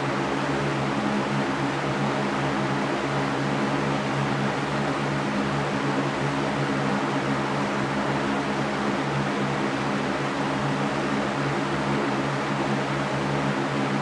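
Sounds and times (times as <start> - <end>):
low steady hum: 0.0 - 14.0
white noise hiss: 0.0 - 14.0.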